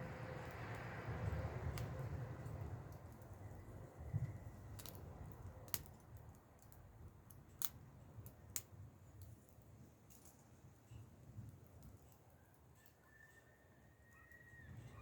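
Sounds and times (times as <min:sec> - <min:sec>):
fire popping and snapping: 0:00.0 - 0:13.0.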